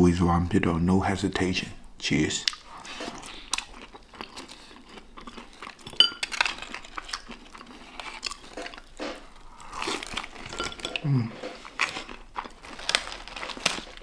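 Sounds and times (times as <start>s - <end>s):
chewing and crunching fried food: 2.4s - 14.0s.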